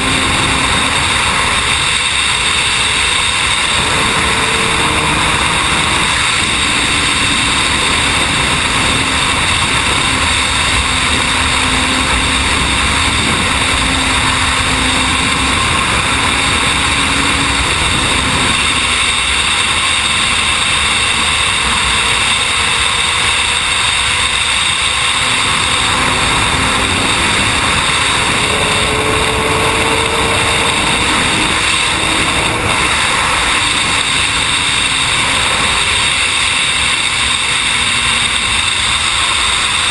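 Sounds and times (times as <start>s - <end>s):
faint motorcycle engine: 0.0s - 39.9s
wind and road noise: 0.0s - 39.9s.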